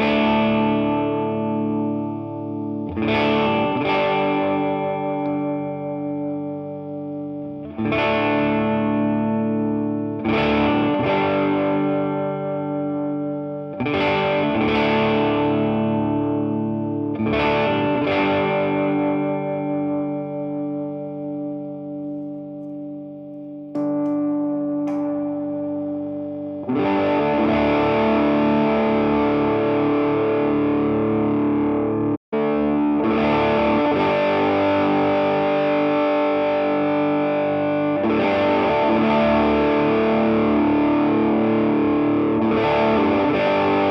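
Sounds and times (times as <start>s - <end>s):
overdriven electric guitar chords: 0.0s - 43.9s.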